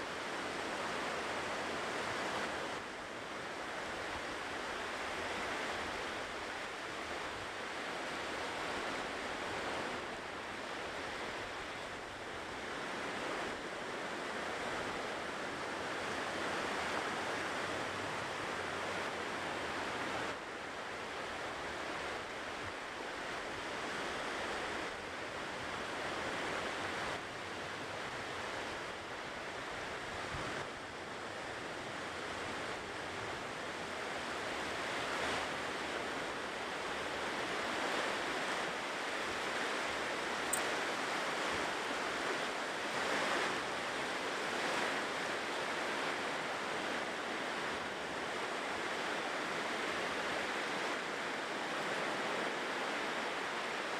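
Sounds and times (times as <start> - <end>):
ocean surf washing onto shore: 0.0 - 53.9.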